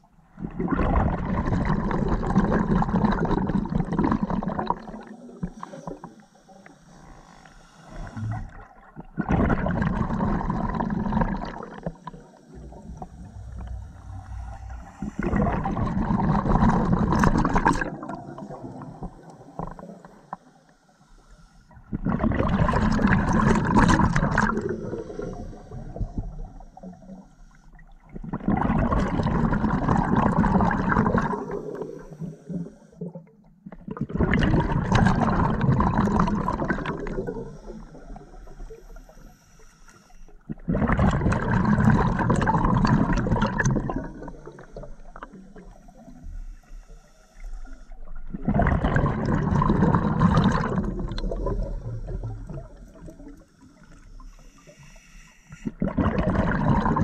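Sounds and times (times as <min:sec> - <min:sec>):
underwater exhaust bubbles: 0:00.0 - 0:57.0.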